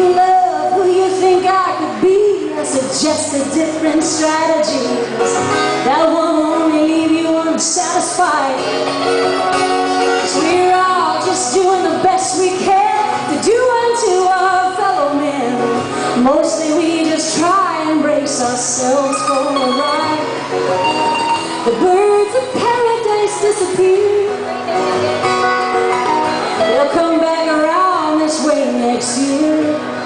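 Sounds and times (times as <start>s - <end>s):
woman singing folk song: 0.0s - 9.2s, 9.8s - 20.5s, 21.4s - 25.3s, 26.2s - 30.0s
acoustic guitars: 0.0s - 30.0s.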